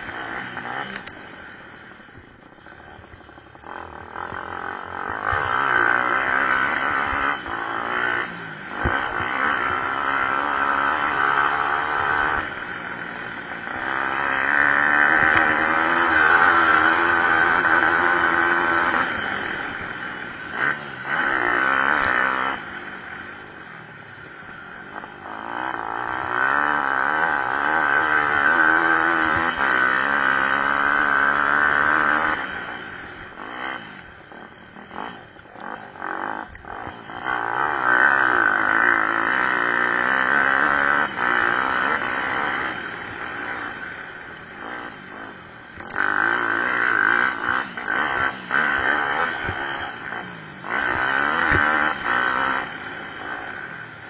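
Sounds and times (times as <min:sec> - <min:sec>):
motorbike engines revving: 0:00.0 - 0:54.0.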